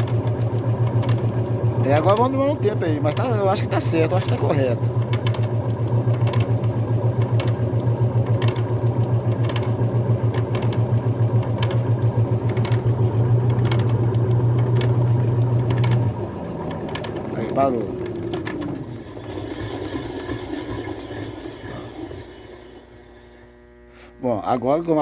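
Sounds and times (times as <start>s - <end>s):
washing machine spin hum: 0.0s - 25.0s.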